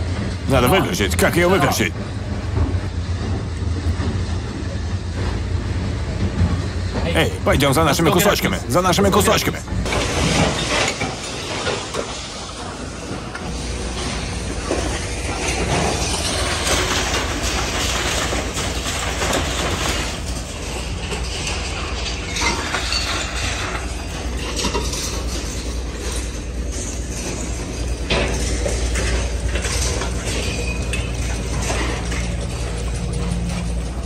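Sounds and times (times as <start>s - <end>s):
machinery low hum: 0.0s - 34.0s
metallic clanking and rattling: 0.0s - 34.0s.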